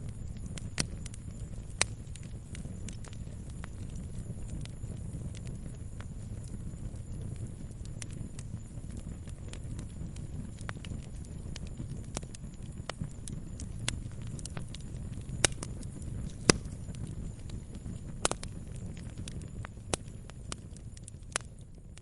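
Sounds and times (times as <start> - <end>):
fire flames rumbling: 0.0 - 22.0
wood fire crackling and popping: 0.0 - 22.0.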